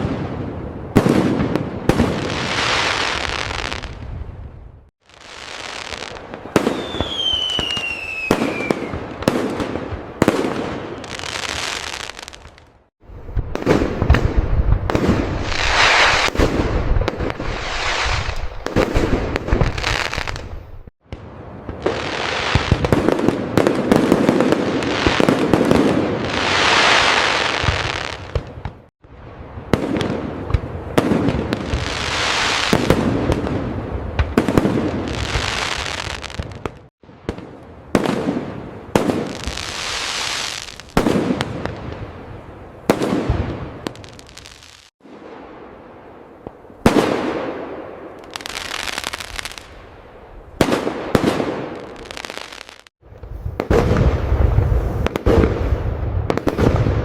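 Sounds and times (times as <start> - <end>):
fireworks crackling: 0.0 - 4.4, 5.0 - 57.0
fireworks booming: 0.0 - 57.0.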